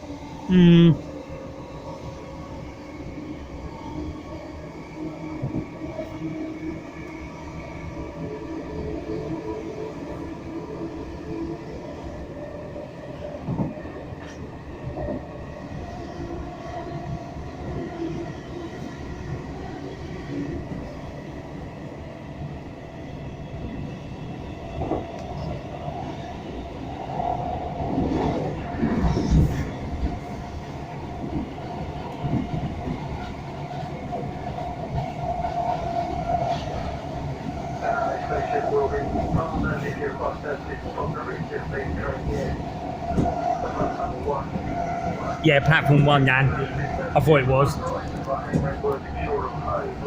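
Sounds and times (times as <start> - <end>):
train carriage rattle: 1.6 - 50.0.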